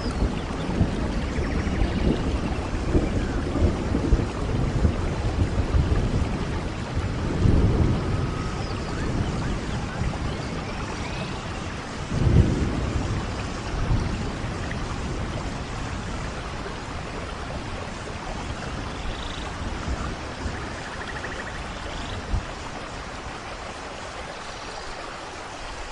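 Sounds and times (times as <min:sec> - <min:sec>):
rolling thunder: 0:00.0 - 0:23.3
steady rain falling: 0:00.0 - 0:25.9.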